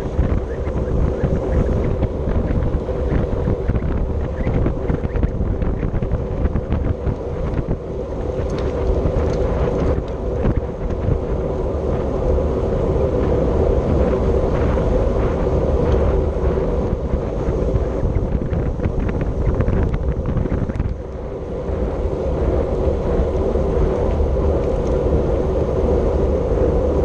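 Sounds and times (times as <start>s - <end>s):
constant low hum: 0.0s - 27.0s
wind rushing over microphone: 0.0s - 27.0s.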